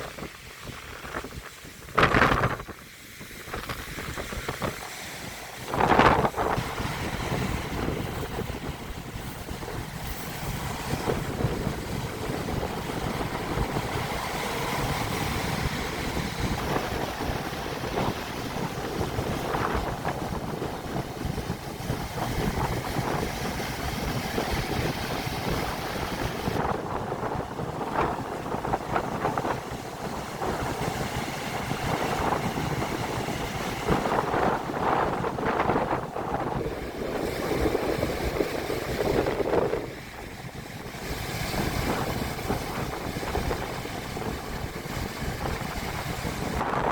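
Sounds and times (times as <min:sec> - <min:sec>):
waves breaking on shore: 0:00.0 - 0:46.9
wind buffeting microphone: 0:00.0 - 0:46.9.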